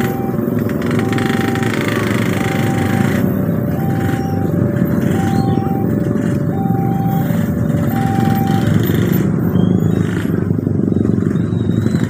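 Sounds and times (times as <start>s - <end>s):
motorcycle engines idling: 0.0s - 12.0s
two-tone crossing warning alarm: 0.0s - 12.0s.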